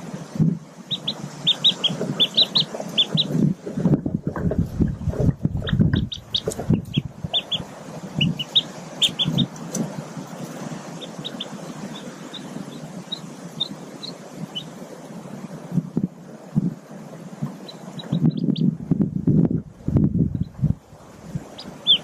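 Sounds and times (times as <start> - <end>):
ducklings peeping: 0.4 - 16.7, 17.4 - 19.6, 20.2 - 22.0.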